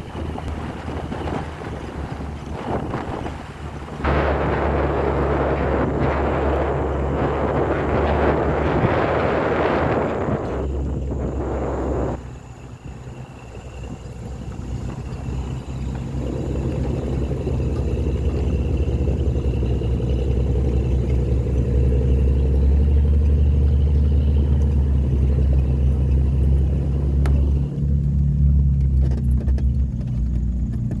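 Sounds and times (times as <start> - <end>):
jeep engines rumbling: 0.0 - 31.0.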